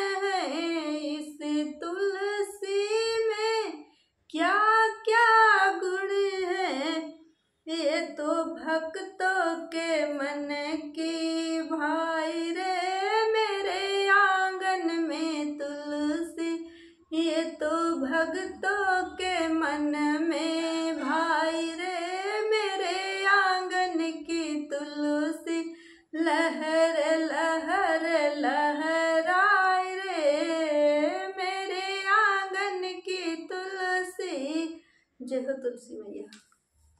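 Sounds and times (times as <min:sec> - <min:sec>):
woman singing devotional song: 0:00.0 - 0:36.3.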